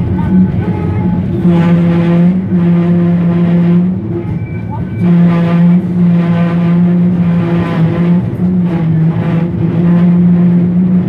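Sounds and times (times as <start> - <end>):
tram motor whine: 0.0 - 11.0
tram rumble: 0.0 - 11.0.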